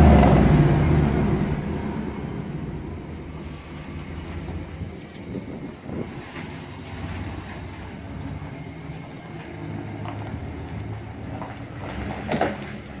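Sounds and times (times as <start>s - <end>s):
car engine running: 0.0s - 13.0s
tyres on gravel: 2.0s - 13.0s.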